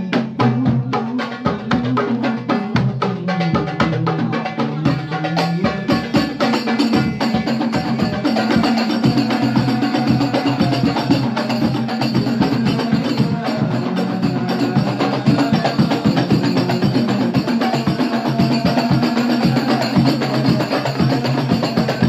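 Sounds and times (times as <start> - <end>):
fast hand drumming: 0.0 - 22.0.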